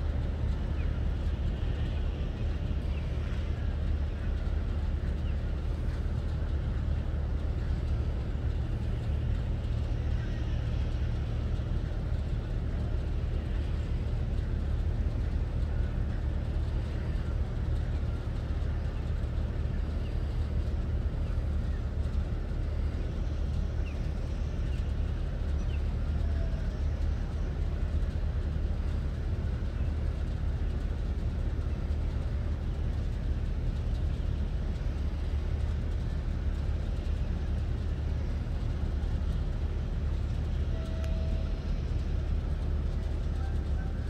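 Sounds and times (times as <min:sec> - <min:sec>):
ship engines low rumble: 0:00.0 - 0:44.0.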